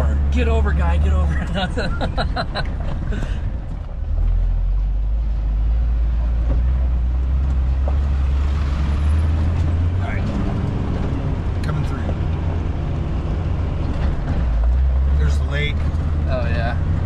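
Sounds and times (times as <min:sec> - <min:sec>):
engine drone inside vehicle: 0:00.0 - 0:17.0.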